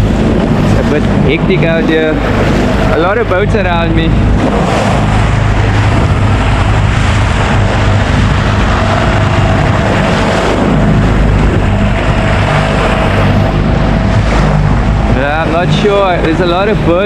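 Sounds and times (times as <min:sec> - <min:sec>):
outboard motor running: 0:00.0 - 0:17.0
wind and water rushing: 0:00.0 - 0:17.0.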